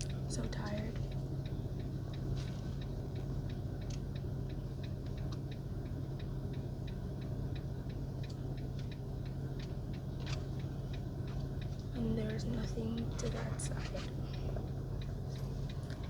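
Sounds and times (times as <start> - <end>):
engine drone inside car: 0.0 - 16.0
turn signal relay ticking: 0.0 - 16.0.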